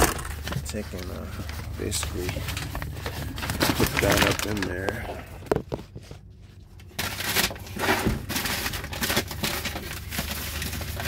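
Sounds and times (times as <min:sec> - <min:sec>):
paper crumpling and rustling: 0:00.0 - 0:11.0.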